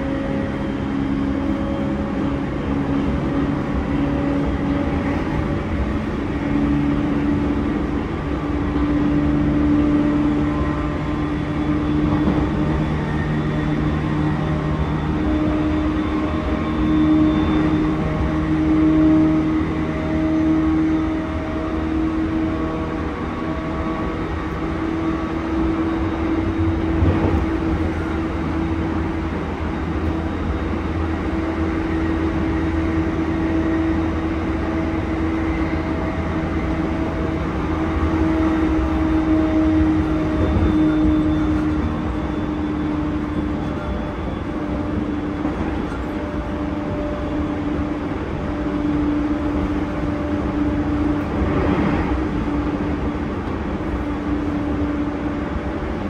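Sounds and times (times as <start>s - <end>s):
electric train motor hum: 0.0s - 56.0s
wheel-on-rail rumble: 0.0s - 56.0s.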